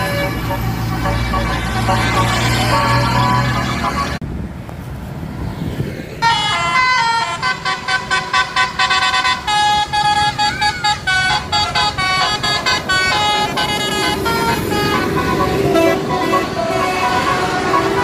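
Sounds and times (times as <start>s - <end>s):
musical air horn melody: 0.0s - 4.2s, 6.2s - 18.0s
road noise: 0.0s - 18.0s.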